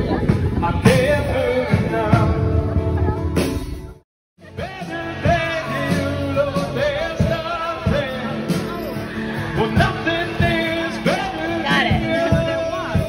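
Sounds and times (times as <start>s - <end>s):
rock and roll song: 0.0s - 13.0s.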